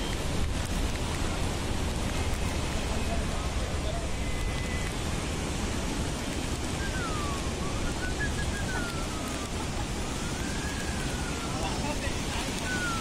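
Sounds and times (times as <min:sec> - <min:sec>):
floodwater rushing over weir: 0:00.0 - 0:13.0.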